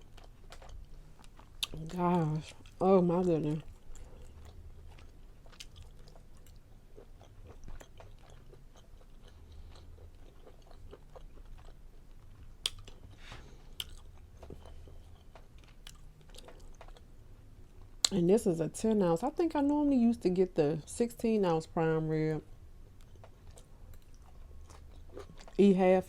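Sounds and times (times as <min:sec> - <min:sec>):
wet chewing sounds: 0:00.0 - 0:18.2, 0:22.8 - 0:25.7.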